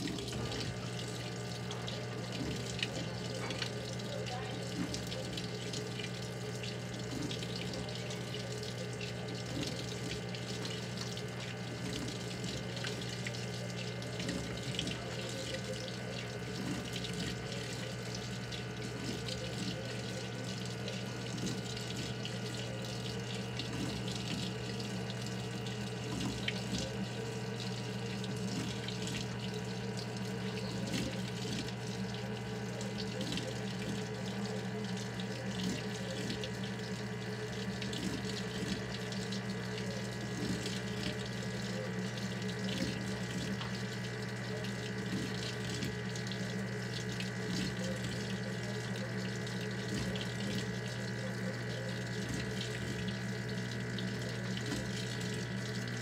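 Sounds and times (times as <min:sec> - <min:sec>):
washing machine low hum: 0:00.0 - 0:56.0
water pouring into washing machine: 0:00.0 - 0:56.0.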